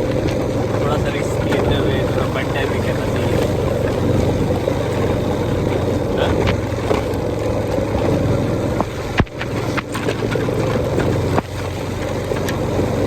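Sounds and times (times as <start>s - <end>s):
motorbike engine running: 0.0s - 13.0s
wind and rain noise: 0.0s - 13.0s.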